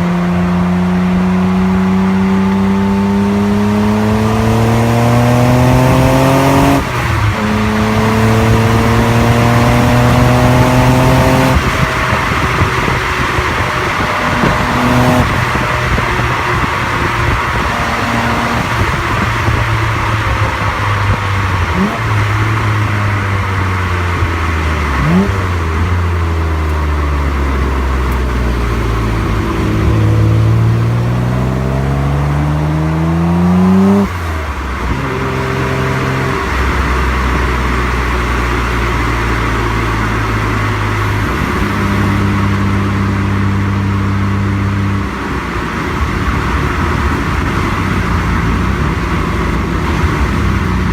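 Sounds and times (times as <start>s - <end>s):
car engine through exhaust: 0.0s - 50.9s
road and wind noise: 0.0s - 50.9s.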